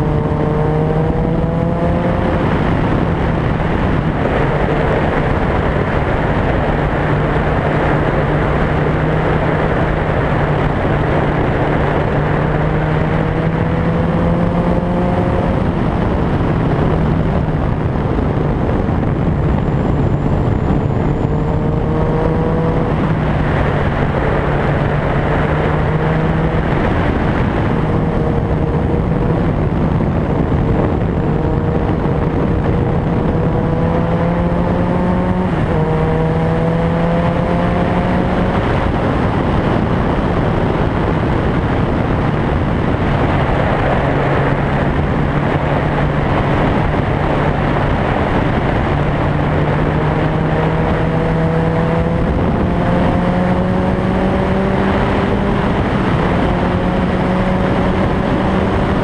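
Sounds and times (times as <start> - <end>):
engine note rising and falling: 0.0 - 59.0
road and wind noise: 0.0 - 59.0.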